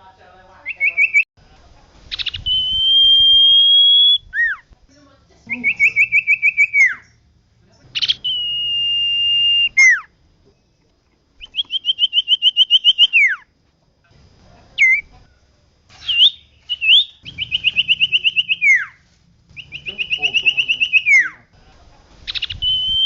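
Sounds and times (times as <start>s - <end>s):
bird singing: 0.6s - 1.3s, 2.1s - 13.5s, 14.8s - 21.5s, 22.3s - 23.0s.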